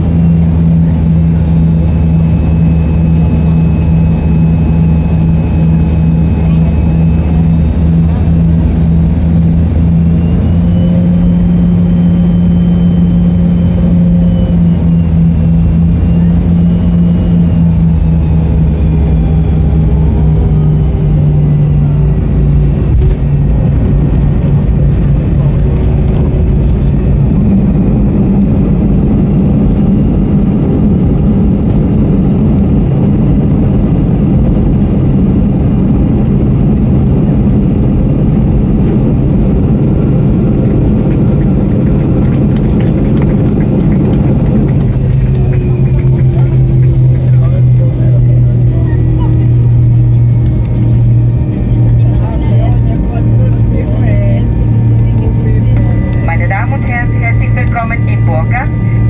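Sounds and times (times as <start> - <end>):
jet engines droning and whining: 0.0 - 59.0
low cabin rumble: 0.0 - 59.0.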